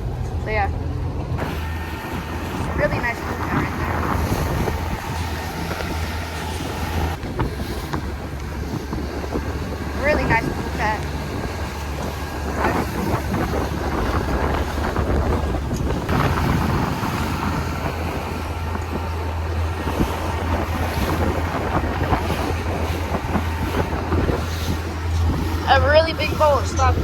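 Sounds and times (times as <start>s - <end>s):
motorboat engine humming: 0.0s - 27.0s
wind buffeting microphone: 0.0s - 27.0s.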